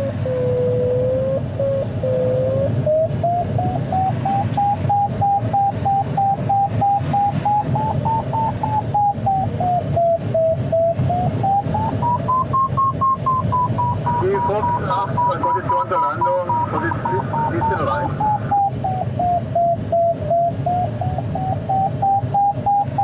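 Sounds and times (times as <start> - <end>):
airflow rushing around cockpit: 0.0 - 23.0
variometer beeping: 0.0 - 23.0.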